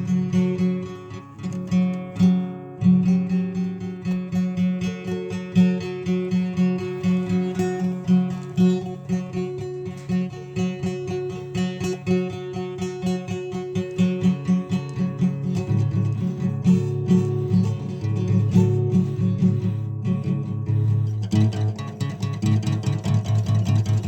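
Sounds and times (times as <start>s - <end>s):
acoustic guitar picking: 0.0s - 24.0s.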